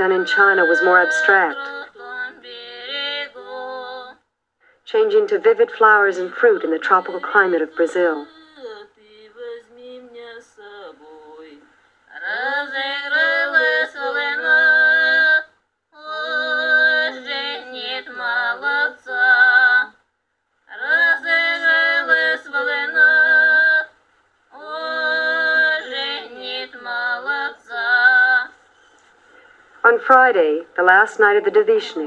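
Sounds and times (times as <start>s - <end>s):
woman singing unaccompanied: 0.0s - 4.2s, 4.9s - 20.0s, 20.7s - 23.9s, 24.5s - 28.5s.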